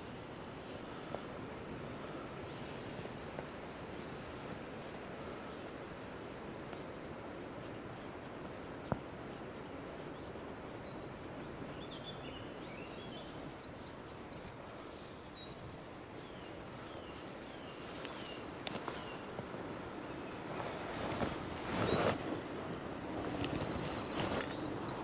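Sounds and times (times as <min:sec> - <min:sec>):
songbirds trilling and chirping: 0:00.0 - 0:25.0.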